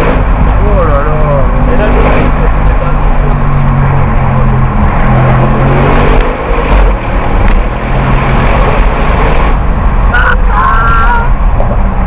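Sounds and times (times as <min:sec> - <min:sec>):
car engine accelerating: 0:00.0 - 0:10.2
wind and road noise: 0:00.0 - 0:12.0.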